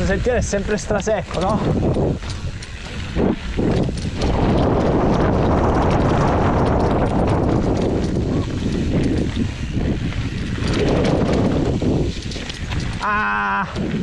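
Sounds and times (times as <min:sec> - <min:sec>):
bike rattling over bumps: 0:00.0 - 0:14.0
tyres crunching over dirt: 0:00.0 - 0:14.0.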